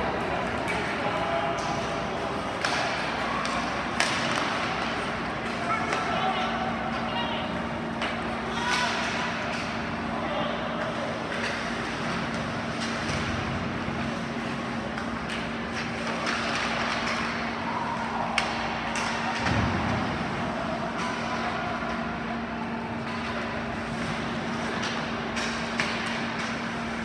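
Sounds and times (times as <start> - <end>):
crowd chatter: 0.0 - 27.0
hockey sticks and puck clacking: 0.0 - 27.0.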